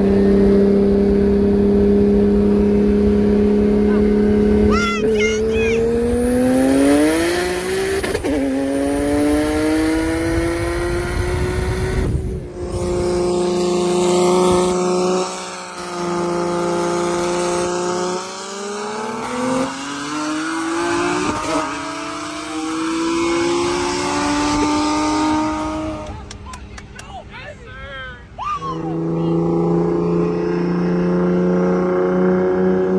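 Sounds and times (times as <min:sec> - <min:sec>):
car engine accelerating hard: 0:00.0 - 0:27.0, 0:28.8 - 0:32.9.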